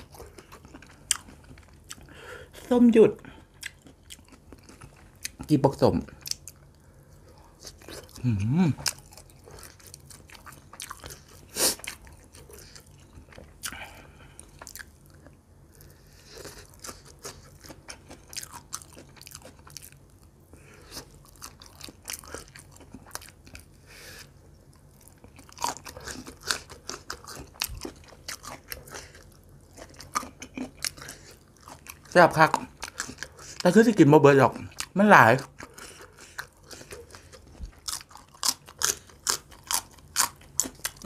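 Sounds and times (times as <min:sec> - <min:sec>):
biting and chewing food: 0:00.0 - 0:02.1, 0:03.4 - 0:23.8, 0:24.8 - 0:41.0.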